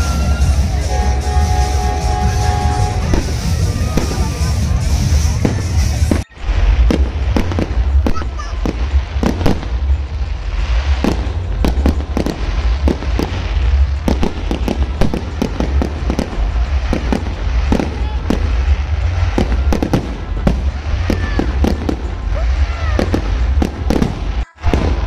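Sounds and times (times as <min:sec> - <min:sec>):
fireworks bangs and cracks: 0:00.0 - 0:25.0
steady low rumble: 0:00.0 - 0:25.0.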